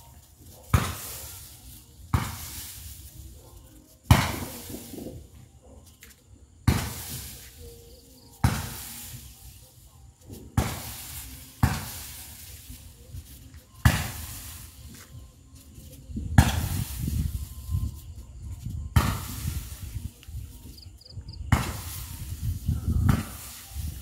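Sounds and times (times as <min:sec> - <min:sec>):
fireworks bangs: 0:00.3 - 0:05.4, 0:06.6 - 0:07.6, 0:08.4 - 0:17.9, 0:18.9 - 0:20.1, 0:21.4 - 0:24.0.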